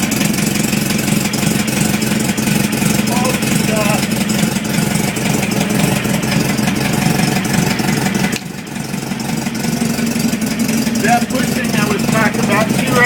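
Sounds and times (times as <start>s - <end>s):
car engine idling: 0.0s - 13.0s
engine knocking: 0.0s - 13.0s.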